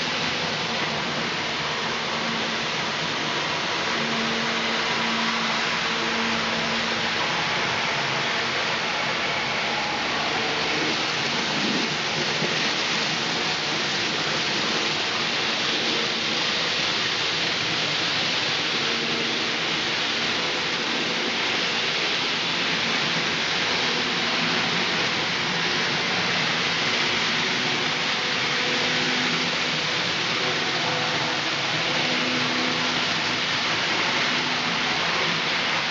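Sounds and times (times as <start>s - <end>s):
model train wheels on rails: 0.0s - 35.9s.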